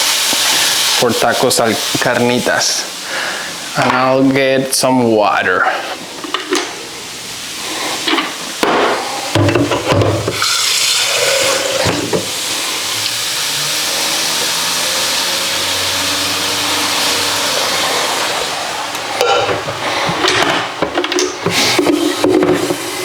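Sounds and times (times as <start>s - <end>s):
mushrooms sizzling in a pan: 0.0s - 5.0s, 6.0s - 19.9s.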